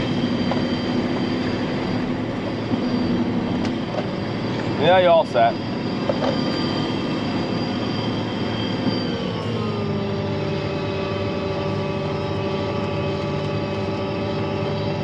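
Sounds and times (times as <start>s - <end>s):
forage harvester engine drone: 0.0s - 15.0s.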